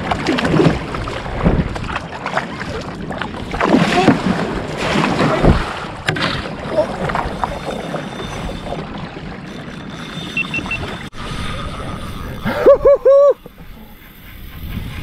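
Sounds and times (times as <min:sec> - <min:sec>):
paddle strokes splashing: 0:00.0 - 0:12.6
water washing along hull: 0:00.0 - 0:15.0
wind buffeting microphone: 0:00.0 - 0:15.0.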